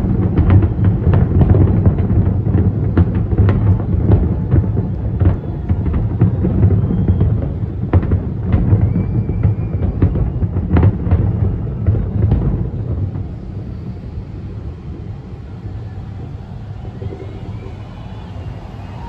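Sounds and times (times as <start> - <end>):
continuous low rumble: 0.0 - 19.0
fireworks booming and banging: 0.0 - 19.0.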